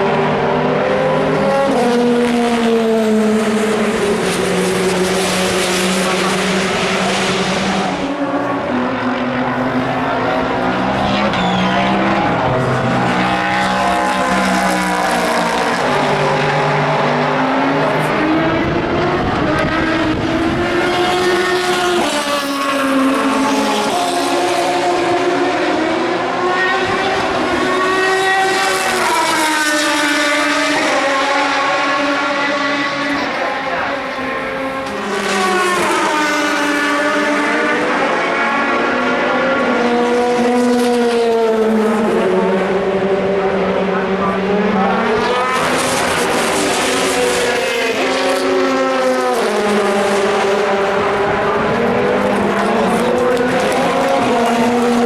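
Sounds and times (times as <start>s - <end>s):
racing car engines at speed: 0.0s - 55.0s.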